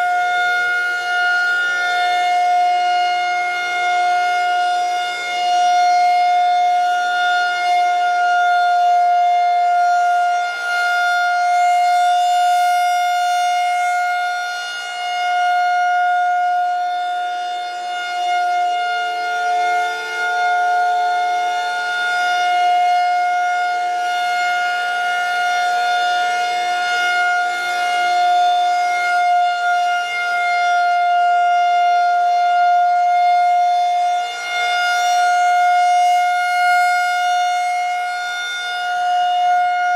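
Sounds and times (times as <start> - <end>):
rotating warning siren steady tone: 0.0 - 39.9.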